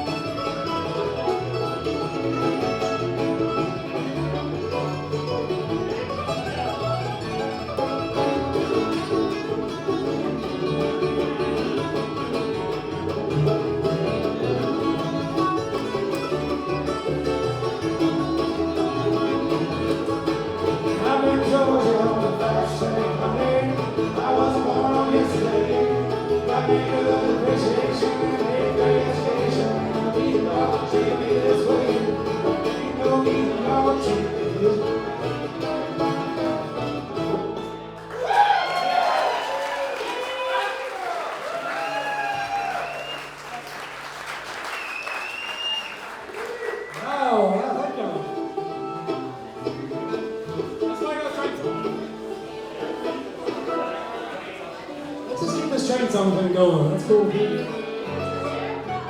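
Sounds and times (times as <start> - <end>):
bluegrass band playing: 0.0 - 40.3, 41.7 - 59.0.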